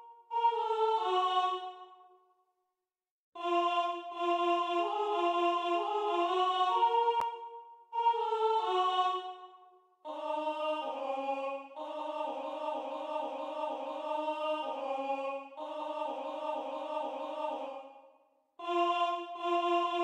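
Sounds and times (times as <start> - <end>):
synthetic choir singing aah: 0.0 - 2.1, 3.4 - 20.0.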